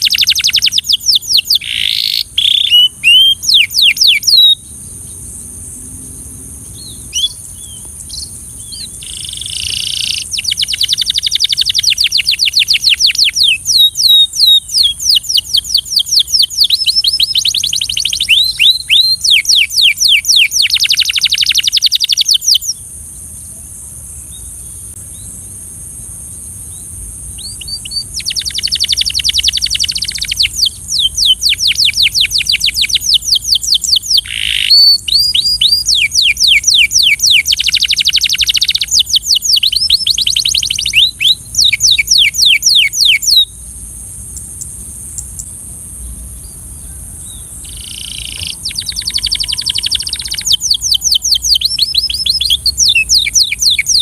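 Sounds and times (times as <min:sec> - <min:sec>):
canary singing trills: 0:00.0 - 0:05.3, 0:06.1 - 0:22.8, 0:26.7 - 0:43.6, 0:44.3 - 0:54.0
steady high hiss: 0:00.0 - 0:54.0.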